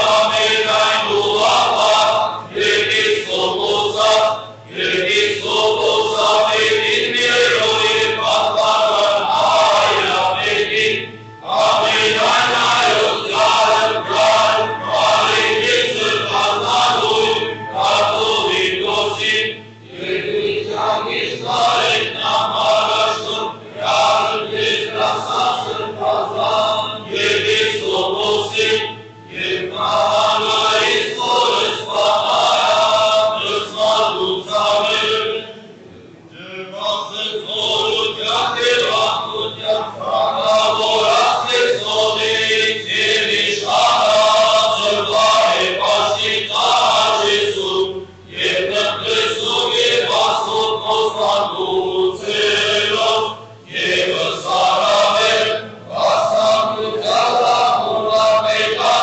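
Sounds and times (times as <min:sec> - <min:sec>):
choir chanting: 0:00.0 - 0:59.0.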